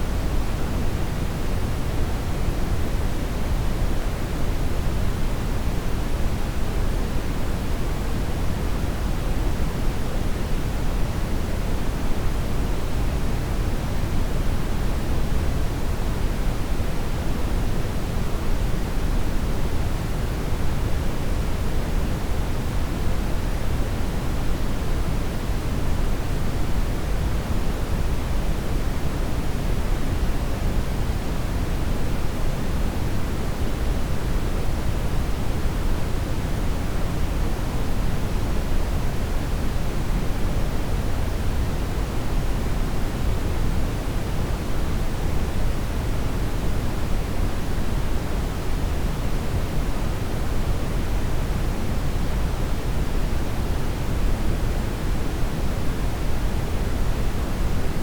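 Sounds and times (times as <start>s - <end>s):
steady brown noise: 0.0s - 58.0s.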